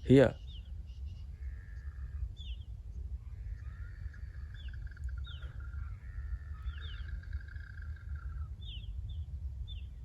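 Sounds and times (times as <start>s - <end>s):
birds chirping and warbling: 0.0s - 10.0s.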